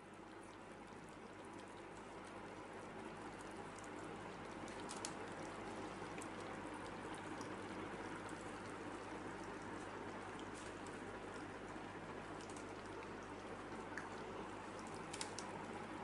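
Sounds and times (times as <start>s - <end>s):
puppies lapping and chewing: 0.8s - 16.0s.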